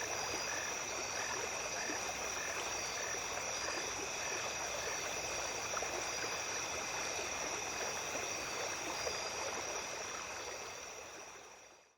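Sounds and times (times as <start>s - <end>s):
stream babbling: 0.0s - 11.7s
night insects trilling: 0.0s - 11.8s.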